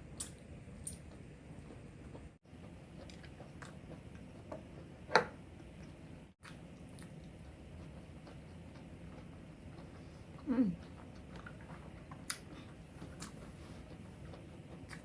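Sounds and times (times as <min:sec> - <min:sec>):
soft chewing: 0:00.2 - 0:05.0, 0:05.6 - 0:15.0.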